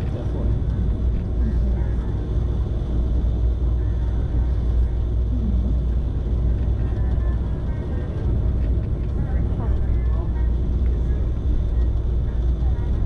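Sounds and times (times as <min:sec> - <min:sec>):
passenger train rumbling on track: 0:00.0 - 0:13.0.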